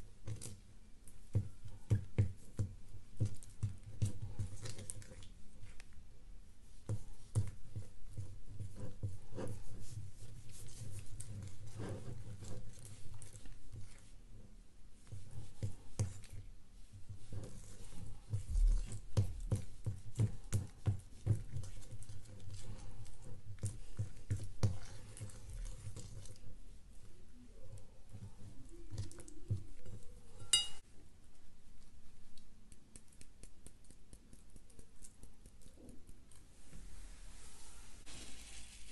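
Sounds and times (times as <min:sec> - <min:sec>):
slime stirred with spoon: 0:00.0 - 0:30.9, 0:31.8 - 0:38.9.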